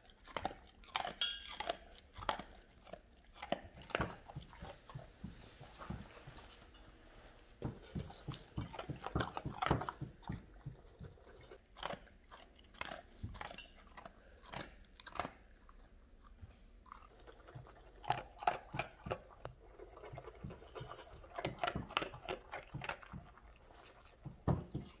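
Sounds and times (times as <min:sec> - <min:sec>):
dogs crunching food from metal bowl: 0:00.0 - 0:05.1, 0:07.7 - 0:25.0.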